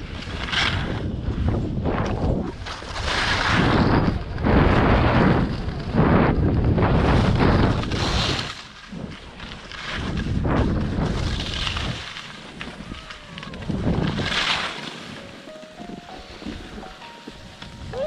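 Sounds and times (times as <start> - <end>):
skis scraping over packed snow: 0.0 - 18.0
wind buffeting microphone: 0.0 - 18.0.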